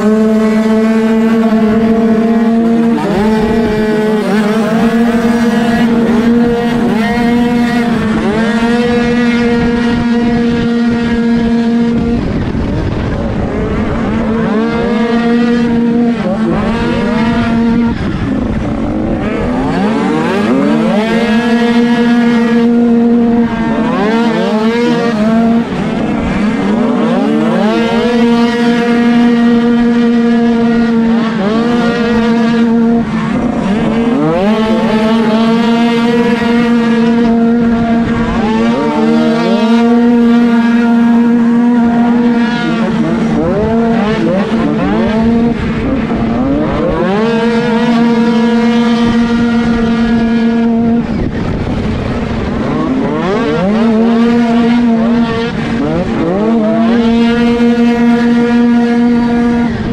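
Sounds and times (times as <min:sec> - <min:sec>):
dirt bike engine revving: 0:00.0 - 0:59.9
second dirt bike engine: 0:00.0 - 0:59.9.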